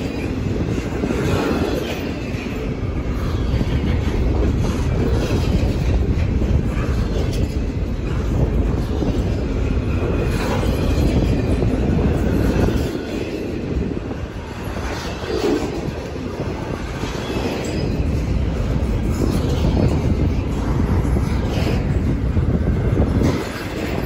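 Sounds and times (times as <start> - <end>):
train cars clattering: 0.0 - 24.0
train wheels rumbling on rails: 0.0 - 24.0.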